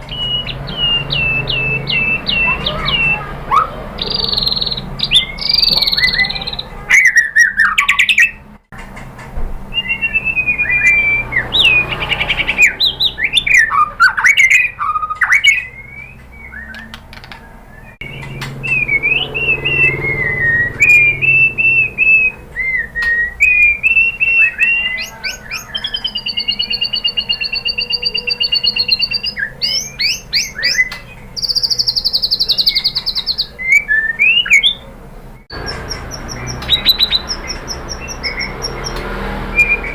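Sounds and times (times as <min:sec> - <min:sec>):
bird singing whistled phrases: 0:00.0 - 0:08.4, 0:09.7 - 0:34.9, 0:35.5 - 0:39.9
bird trill: 0:00.0 - 0:08.5, 0:09.7 - 0:39.9.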